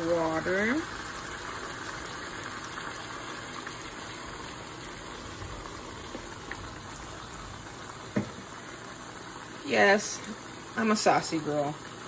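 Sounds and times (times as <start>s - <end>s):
water pouring into a wok: 0.0s - 10.8s.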